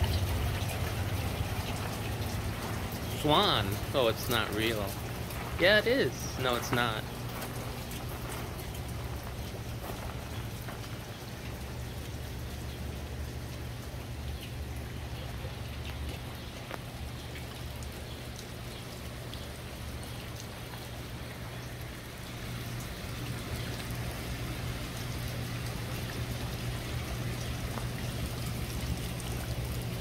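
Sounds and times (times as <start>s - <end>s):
low steady hum: 0.0s - 30.0s
pond water trickling: 0.0s - 30.0s.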